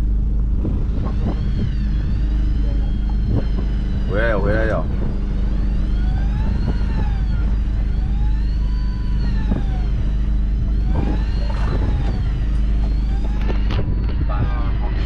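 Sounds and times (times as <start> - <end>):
boat engine drone: 0.0 - 15.0
electric fishing reel motor whining: 0.0 - 15.0.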